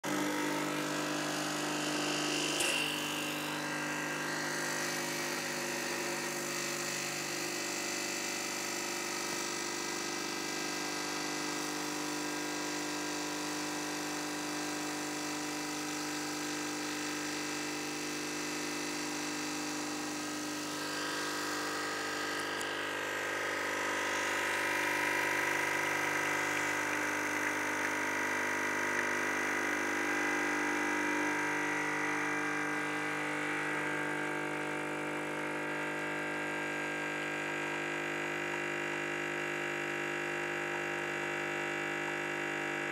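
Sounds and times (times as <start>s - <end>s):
espresso machine humming: 0.0s - 42.9s.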